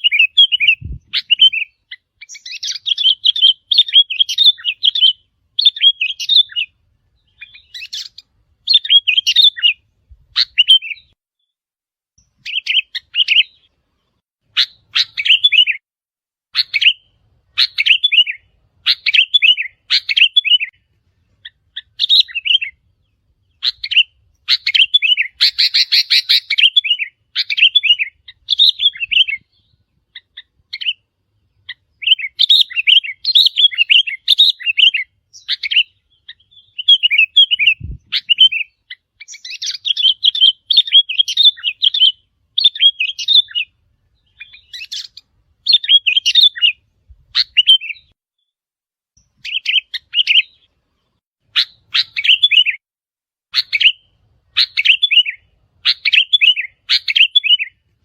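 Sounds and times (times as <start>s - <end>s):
bird song whistled phrases: 0.0s - 11.5s, 12.2s - 13.7s, 14.5s - 15.8s, 16.6s - 20.8s, 21.4s - 22.9s, 23.5s - 31.0s, 31.6s - 48.5s, 49.2s - 50.7s, 51.5s - 52.8s, 53.5s - 57.8s.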